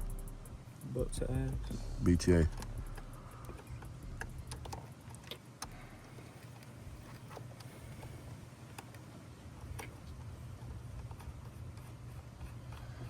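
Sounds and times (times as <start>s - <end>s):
low steady hum: 0.0s - 13.0s
faint clicks and taps: 2.5s - 13.0s.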